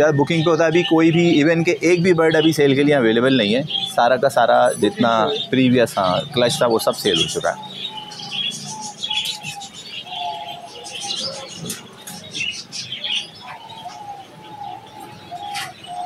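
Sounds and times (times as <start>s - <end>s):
doves cooing: 0.0s - 16.0s
high bird chirps: 0.0s - 16.0s.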